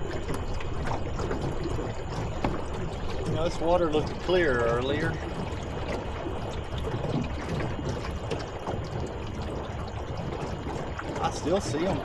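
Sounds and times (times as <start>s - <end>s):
low uneven rumble: 0.0s - 12.0s
water sloshing against boat hull: 0.0s - 12.0s.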